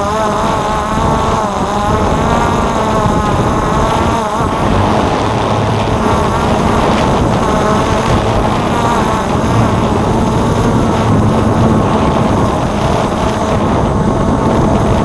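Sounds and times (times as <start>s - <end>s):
drone propellers buzzing: 0.0s - 15.0s
wind rumble on microphone: 0.0s - 15.0s.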